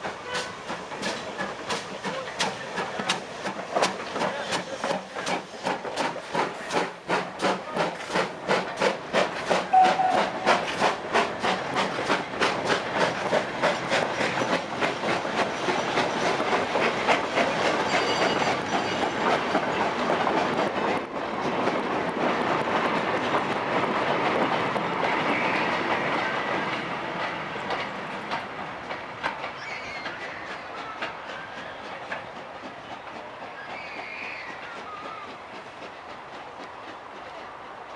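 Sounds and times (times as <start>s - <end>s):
train wheels clattering over rail joints: 0.0s - 37.9s.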